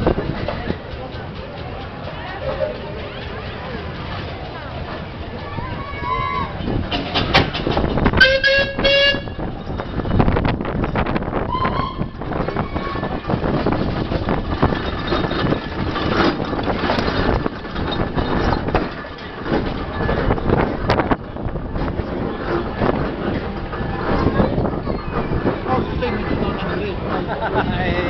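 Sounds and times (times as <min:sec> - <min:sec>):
steam roller engine clattering: 0:00.0 - 0:28.0
trailers rumbling: 0:00.0 - 0:28.0.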